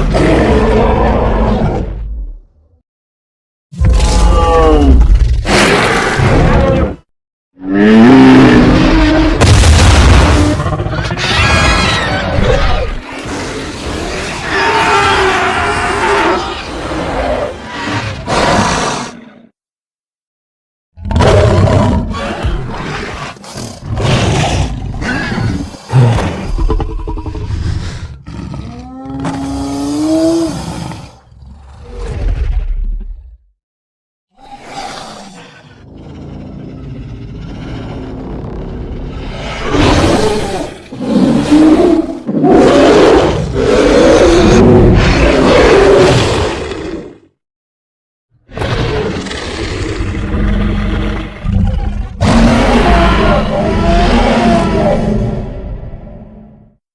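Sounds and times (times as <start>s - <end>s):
dinosaur roars and growls: 0.0s - 2.8s, 3.8s - 19.6s, 21.0s - 33.5s, 34.3s - 47.4s, 48.4s - 56.8s.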